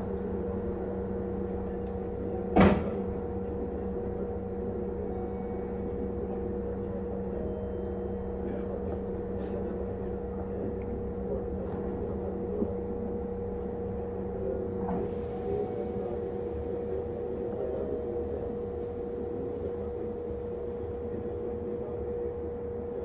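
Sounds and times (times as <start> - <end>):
electric train equipment hum: 0.0 - 23.0.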